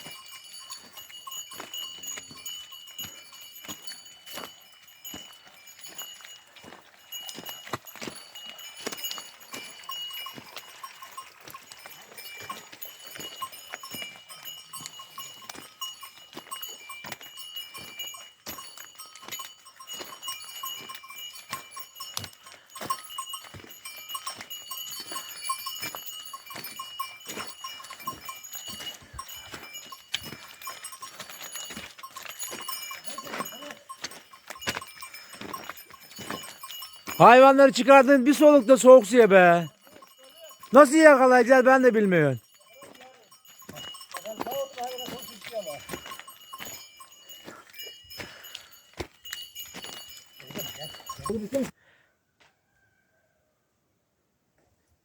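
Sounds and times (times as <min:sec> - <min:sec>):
livestock bells clanking: 0:00.0 - 0:51.8.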